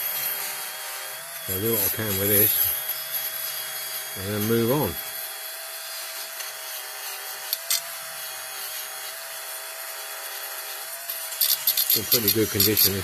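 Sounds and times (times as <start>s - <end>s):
rotary tool whine: 0.0s - 13.0s
wire brush scrubbing metal: 1.4s - 13.0s.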